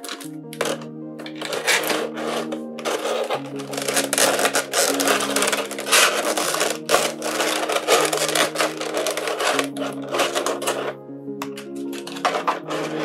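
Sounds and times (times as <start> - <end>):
plastic tray crinkling: 0.0 - 13.0.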